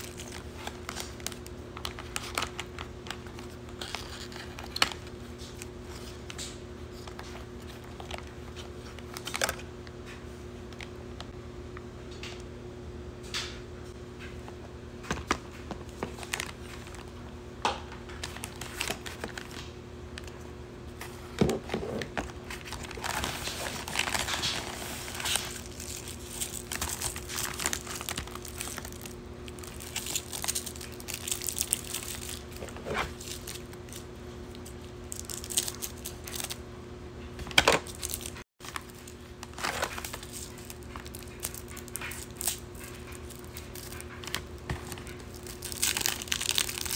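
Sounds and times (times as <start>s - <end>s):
plastic and paper crinkling: 0.0s - 9.7s, 15.1s - 17.3s, 18.0s - 20.4s, 21.0s - 36.6s, 37.5s - 46.9s
steady low hum: 0.0s - 46.9s.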